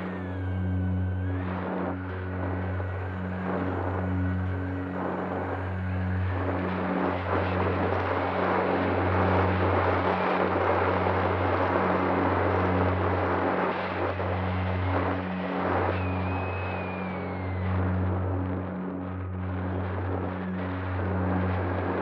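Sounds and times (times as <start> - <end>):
model plane propeller noise: 0.0 - 22.0.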